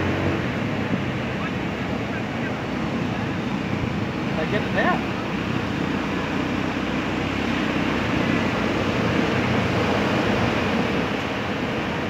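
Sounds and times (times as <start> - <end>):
surf washing up the shore: 0.0 - 12.0
wind rumble on microphone: 0.0 - 12.0.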